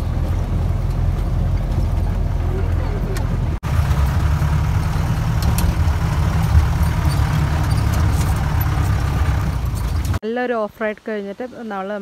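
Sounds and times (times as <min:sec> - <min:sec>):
jeep engine and road rumble: 0:00.0 - 0:10.4.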